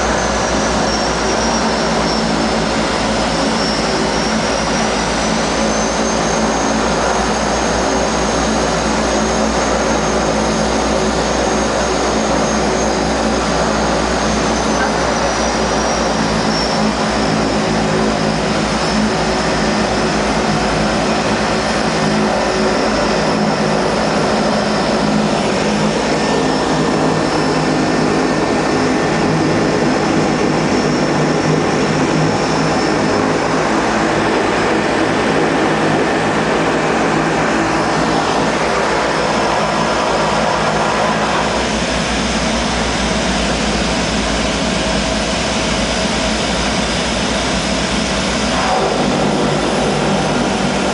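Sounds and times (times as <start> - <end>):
thin high whine: 0.0 - 50.9
turboprop engine running: 0.0 - 50.9.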